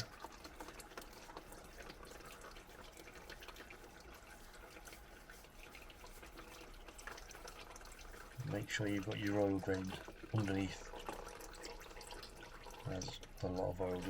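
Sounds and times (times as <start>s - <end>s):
oil trickling and dripping: 0.0s - 14.0s.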